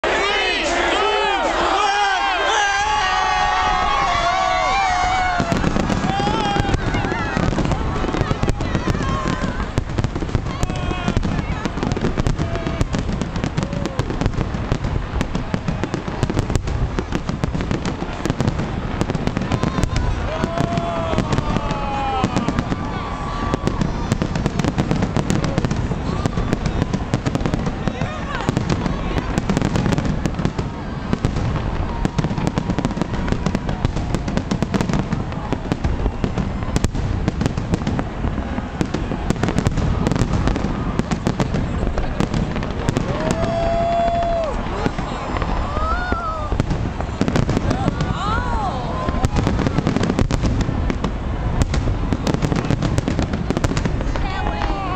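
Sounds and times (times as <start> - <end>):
fireworks bursting and crackling: 0.7 - 54.9.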